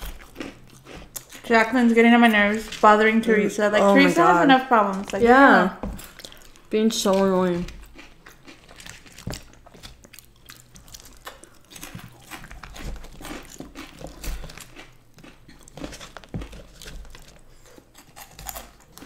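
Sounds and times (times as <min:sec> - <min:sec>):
people chewing and crunching snacks: 0:00.0 - 0:19.0.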